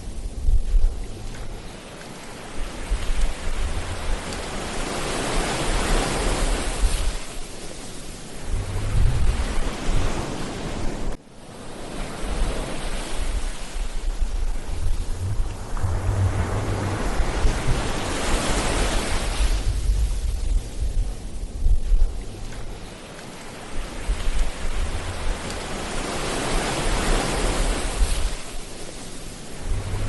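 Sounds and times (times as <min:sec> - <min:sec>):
ocean surf washing onto beach: 0:00.0 - 0:30.0
wind rumble on microphone: 0:00.0 - 0:30.0.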